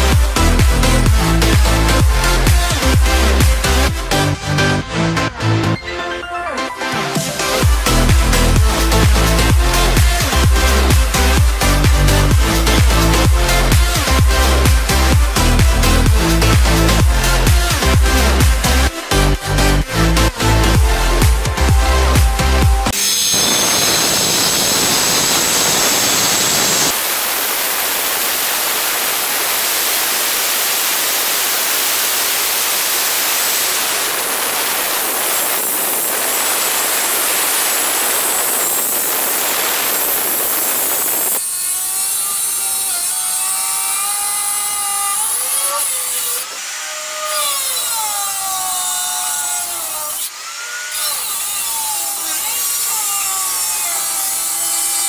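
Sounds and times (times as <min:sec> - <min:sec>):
electric stone cutter grinding: 0:00.0 - 0:55.0.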